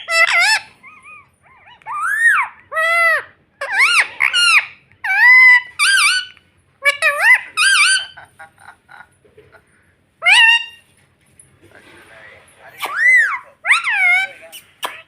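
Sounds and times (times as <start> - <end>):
parrot squawking: 0.0 - 9.1, 10.2 - 10.9, 12.7 - 15.0.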